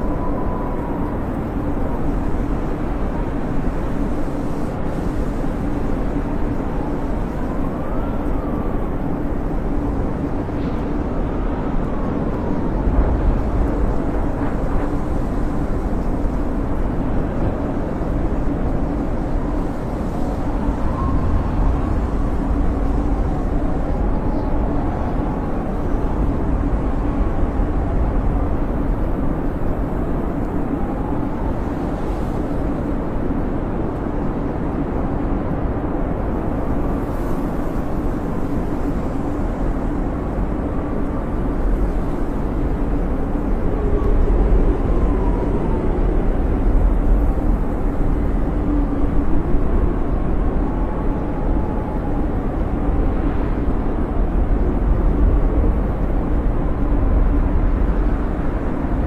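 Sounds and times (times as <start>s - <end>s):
snowstorm wind rumbling: 0.0s - 59.0s
wind whistling: 0.0s - 59.0s.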